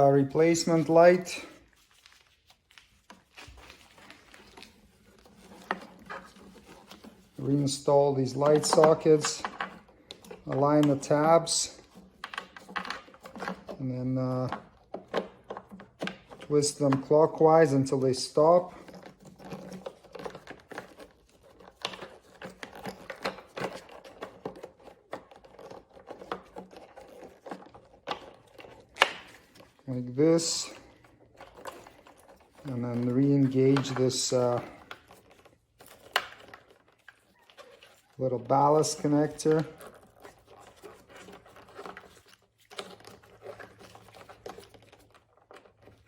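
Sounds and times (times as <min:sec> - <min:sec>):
plastic housing rubbing and clicking: 0:03.1 - 0:46.0.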